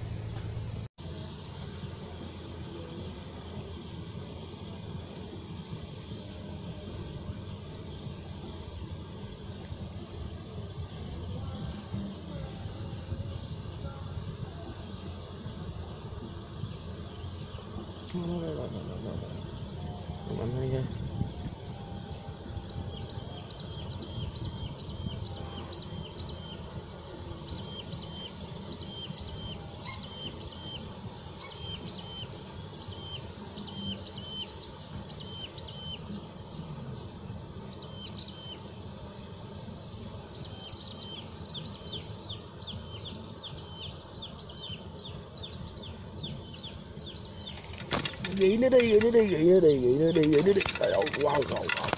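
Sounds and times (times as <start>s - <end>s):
low outdoor rumble: 0.0s - 51.9s
small birds chirping: 0.0s - 51.9s.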